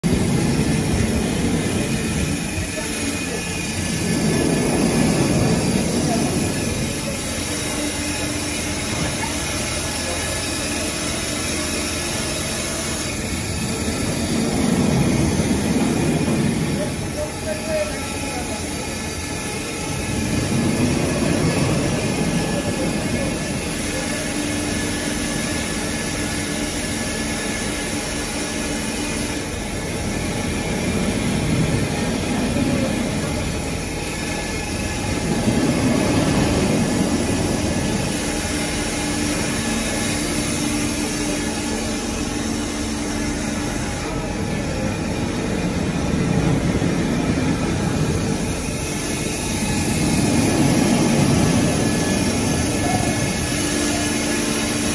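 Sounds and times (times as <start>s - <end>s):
cutting machine drone: 0.0s - 54.9s
low hum: 0.0s - 54.9s.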